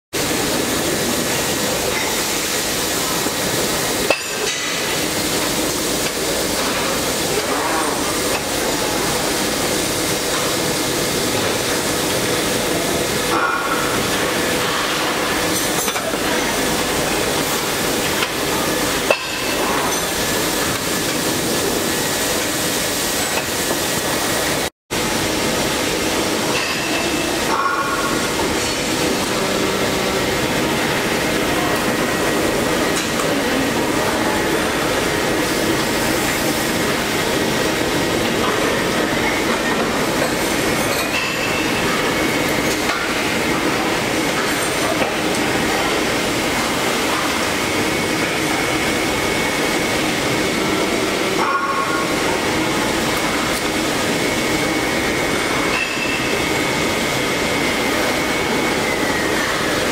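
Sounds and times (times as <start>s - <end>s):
conveyor belts running: 0.2s - 59.9s
injection molding machines running: 0.2s - 59.9s.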